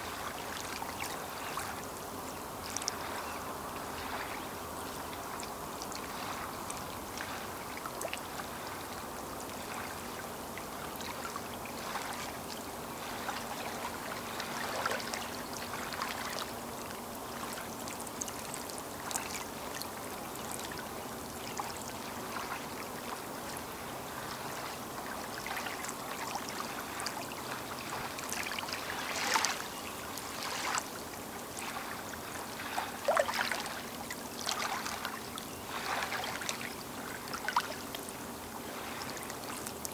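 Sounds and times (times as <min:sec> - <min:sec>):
lake waves lapping on shore: 0:00.0 - 0:39.9.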